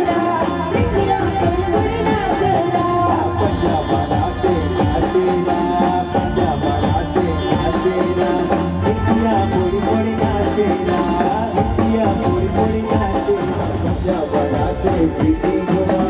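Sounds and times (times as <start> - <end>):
folk band percussion beat: 0.0 - 16.0.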